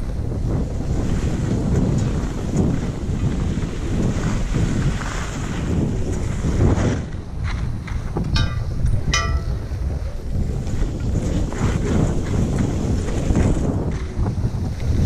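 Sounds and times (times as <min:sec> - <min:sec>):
wind buffeting camera microphone: 0:00.0 - 0:15.0.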